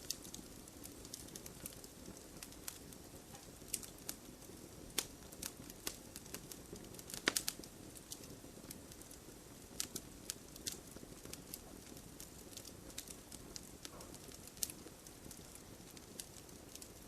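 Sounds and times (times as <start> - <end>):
campfire crackling and popping: 0.0 - 17.0
soft rustle of flames: 0.0 - 17.0.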